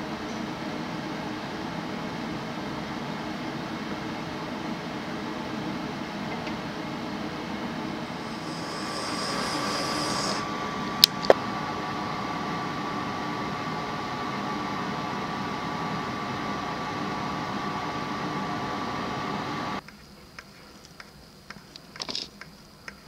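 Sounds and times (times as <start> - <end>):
mechanical hum with high whine: 0.0 - 23.0.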